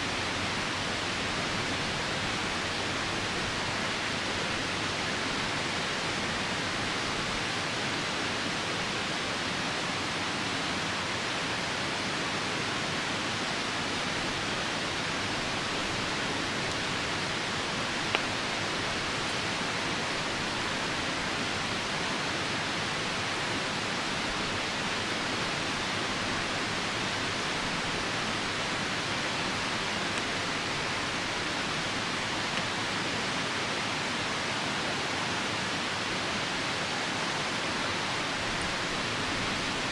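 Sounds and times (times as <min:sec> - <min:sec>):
rain falling: 0:00.0 - 0:39.9
river rushing: 0:00.0 - 0:39.9.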